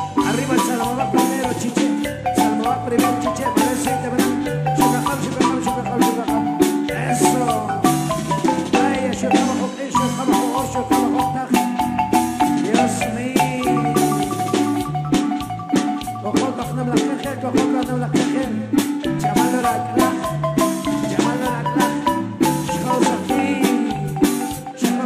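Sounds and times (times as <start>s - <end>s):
marimba melody: 0.0s - 25.0s
percussion strikes: 0.0s - 25.0s
repeating bass line: 0.0s - 25.0s.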